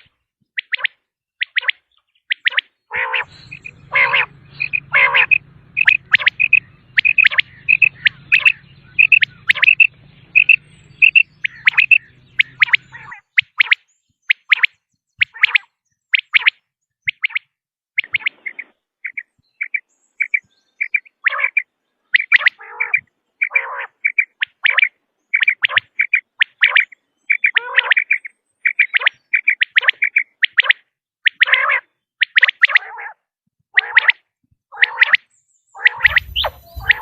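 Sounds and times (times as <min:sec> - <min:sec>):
quail calling: 0:00.0 - 0:33.2, 0:33.8 - 0:37.0.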